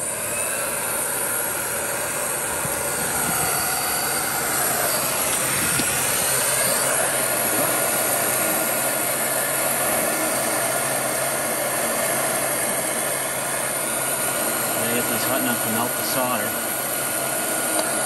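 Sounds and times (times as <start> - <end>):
heat gun blowing: 0.0 - 18.0.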